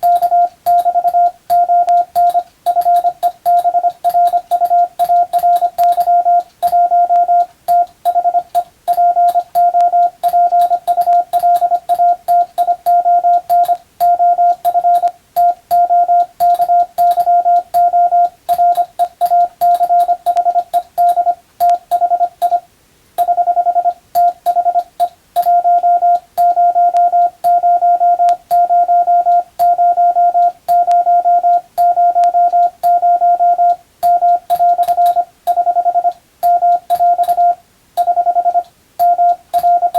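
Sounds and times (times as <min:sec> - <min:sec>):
morse code beeping tone: 0:00.0 - 0:22.6, 0:23.2 - 0:39.9.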